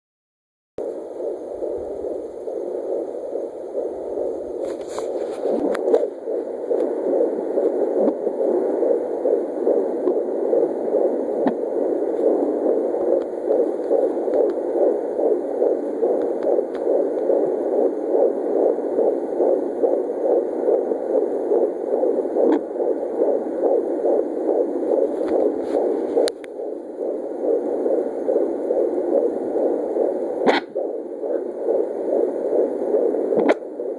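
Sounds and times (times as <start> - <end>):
fast fetal heartbeat pulsing: 0.8 - 33.9.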